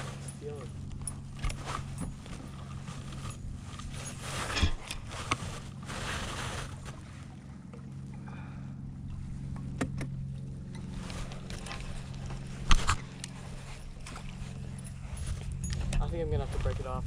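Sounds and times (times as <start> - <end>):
electric trolling motor humming: 0.0 - 16.1.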